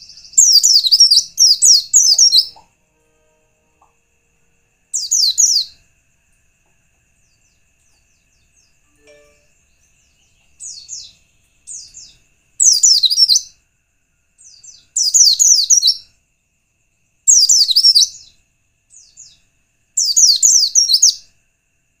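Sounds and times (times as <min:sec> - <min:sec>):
bird chirping song: 0:00.0 - 0:04.2, 0:04.8 - 0:06.0, 0:06.6 - 0:13.6, 0:14.3 - 0:21.3.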